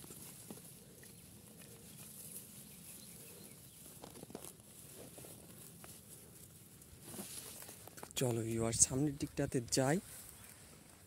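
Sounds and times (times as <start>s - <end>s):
hand rustling through dry grass: 0.0s - 11.0s.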